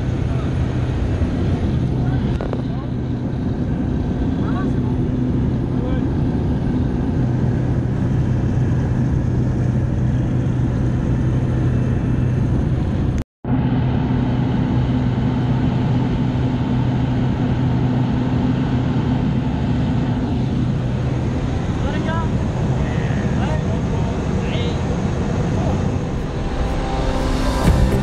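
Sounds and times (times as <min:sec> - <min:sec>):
light aircraft engine drone: 0:00.0 - 0:28.0.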